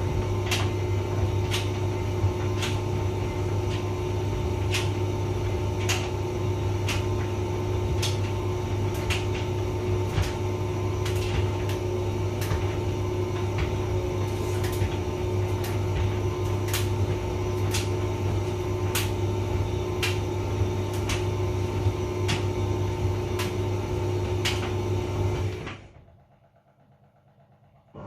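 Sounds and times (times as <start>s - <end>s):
load knocking in dryer drum: 0.0s - 25.9s
tumble dryer humming: 0.0s - 28.0s.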